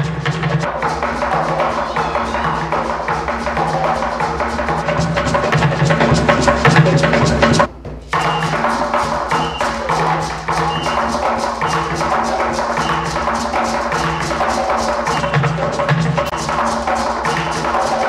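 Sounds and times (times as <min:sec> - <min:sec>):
fast percussion dance music: 0:00.0 - 0:18.0
hand drum beat: 0:00.0 - 0:18.0.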